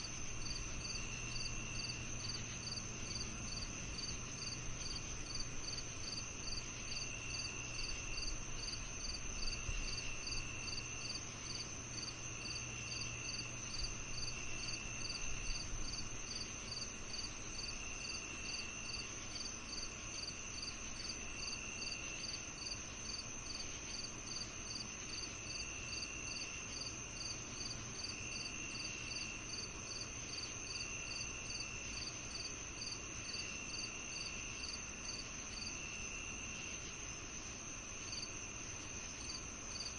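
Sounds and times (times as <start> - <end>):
crickets chirping: 0.0 - 39.9
faint low hum: 0.0 - 39.9
lower cricket trill: 0.0 - 39.9.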